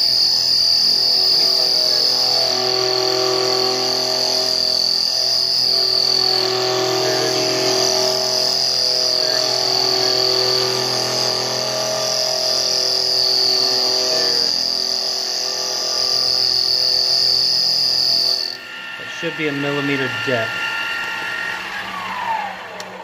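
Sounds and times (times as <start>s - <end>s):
lathe tool squealing on metal: 0.0s - 21.8s.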